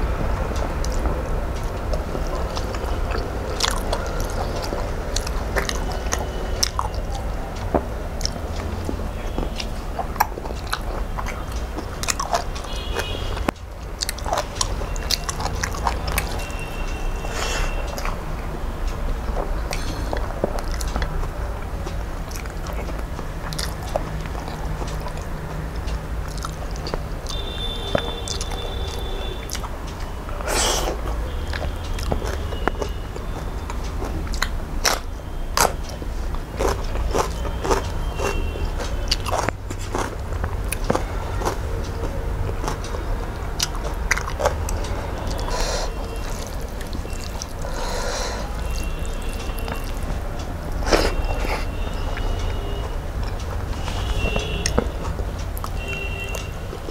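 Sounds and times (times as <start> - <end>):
chewing with lip smacks: 0.5 - 18.2, 19.2 - 56.9
sharp mouth clicks: 0.8 - 16.5, 19.3 - 56.9.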